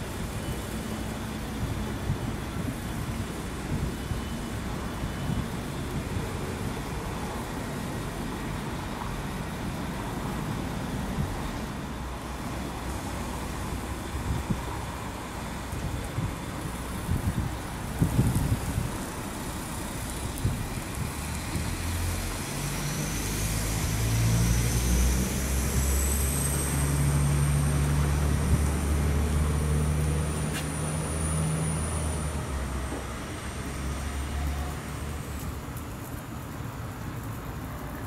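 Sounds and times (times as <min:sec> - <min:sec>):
high engine whine: 0:00.0 - 0:38.0
railcar diesel engine drone: 0:00.0 - 0:38.0.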